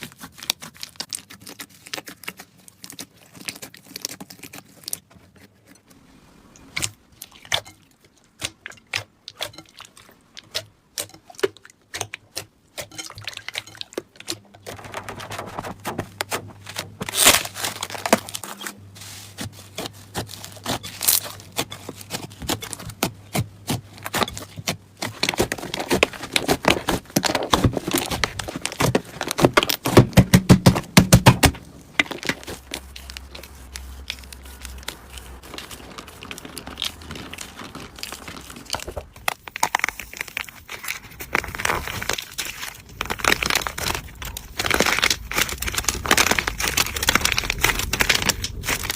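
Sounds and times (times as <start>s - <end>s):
slime clicking and crackling: 0.0s - 5.6s, 6.7s - 48.9s.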